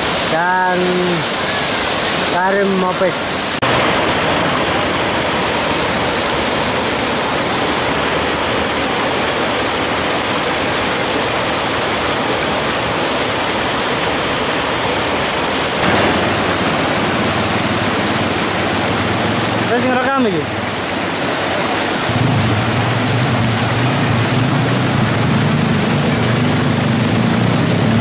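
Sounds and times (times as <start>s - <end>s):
water rushing over rocks: 0.0s - 28.0s.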